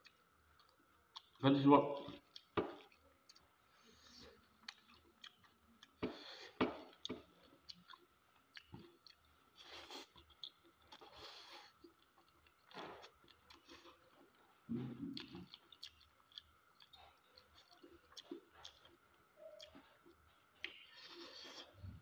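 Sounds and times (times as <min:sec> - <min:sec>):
wet chewing: 0:00.0 - 0:01.4, 0:02.0 - 0:21.9.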